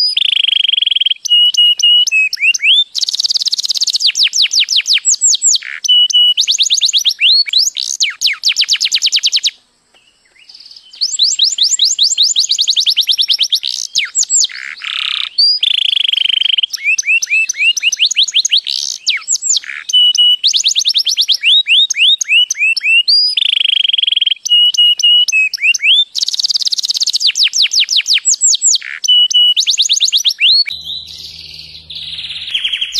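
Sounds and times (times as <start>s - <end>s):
canary singing: 0.0s - 9.5s, 10.5s - 32.9s.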